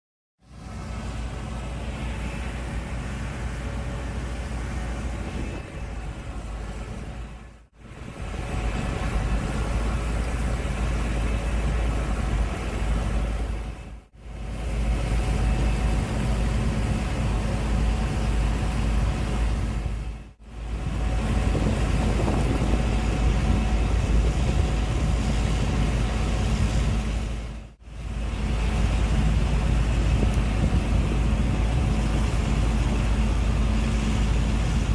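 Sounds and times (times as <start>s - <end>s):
combine harvester droning: 0.4s - 34.9s.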